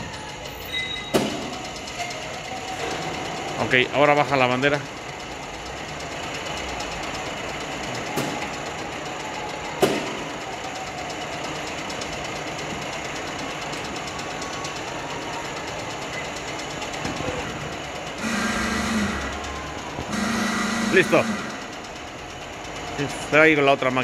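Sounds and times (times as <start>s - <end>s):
motor and gearing humming: 0.0s - 24.0s.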